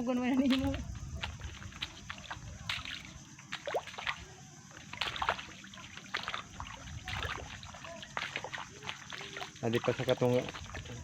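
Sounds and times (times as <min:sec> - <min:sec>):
footsteps splashing through water: 0:00.0 - 0:11.0.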